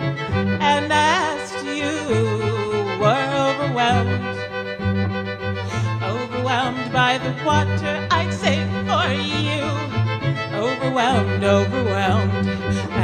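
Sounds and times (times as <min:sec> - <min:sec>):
deep held bass notes: 0:00.0 - 0:13.0
violin: 0:00.0 - 0:13.0
woman singing wordless melody: 0:00.6 - 0:04.5, 0:05.7 - 0:13.0.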